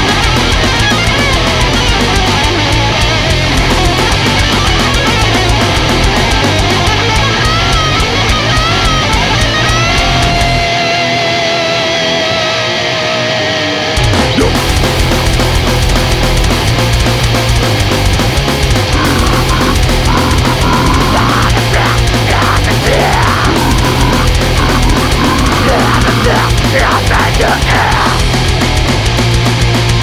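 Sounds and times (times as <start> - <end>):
wavering distorted guitar note: 0.0 - 29.2
heavy metal band playing: 0.0 - 30.0.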